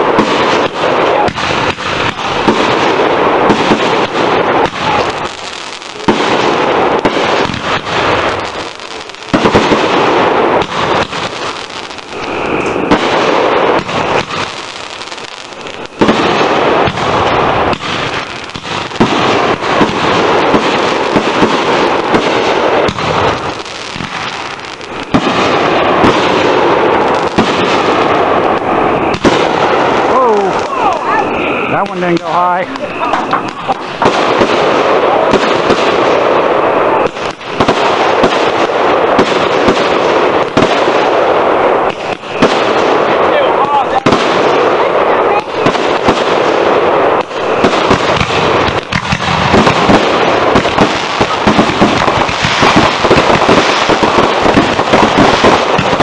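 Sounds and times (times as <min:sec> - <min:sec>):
firework shells bursting: 0:00.0 - 0:56.0
fireworks crackling: 0:00.0 - 0:56.0.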